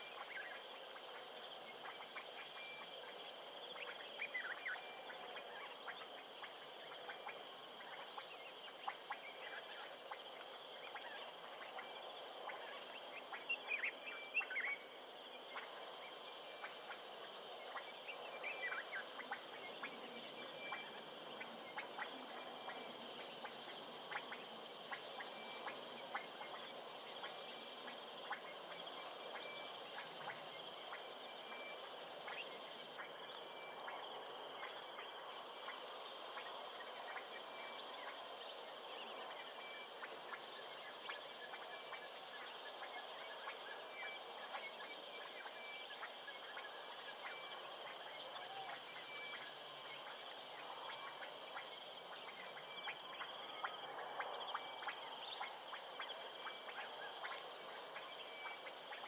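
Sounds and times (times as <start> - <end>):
background hiss: 0.0 - 59.0
frogs and insects trilling: 0.0 - 59.0.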